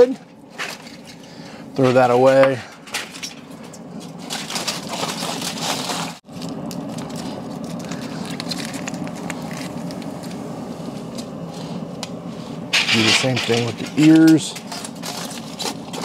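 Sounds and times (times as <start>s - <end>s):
aluminium foil crinkling: 0.0s - 11.8s, 12.7s - 16.0s
steady low hum: 0.0s - 16.0s.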